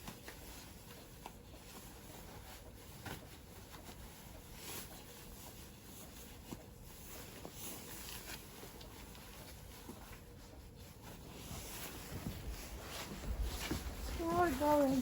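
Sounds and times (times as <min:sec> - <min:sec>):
faint rustling: 0:00.0 - 0:15.0.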